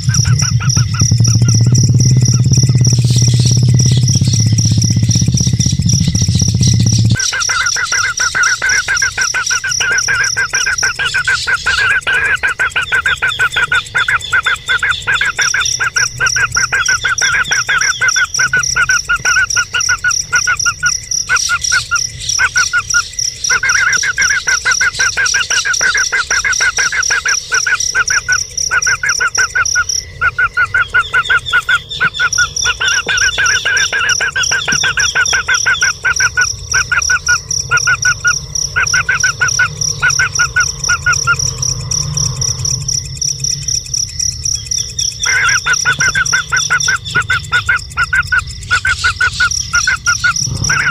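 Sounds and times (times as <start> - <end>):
bird calls with rapid repeated notes: 0.0 - 50.9
steady high whine: 0.0 - 50.9.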